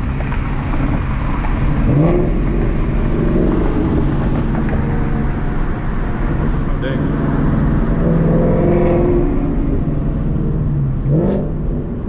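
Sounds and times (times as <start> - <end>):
car engine exhaust note: 0.0 - 12.0.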